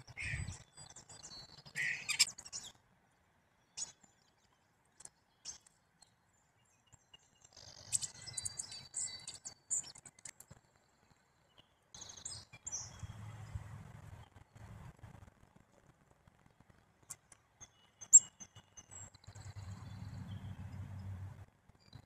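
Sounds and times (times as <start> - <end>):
songbirds chirping: 0.0 - 15.3, 16.3 - 22.0.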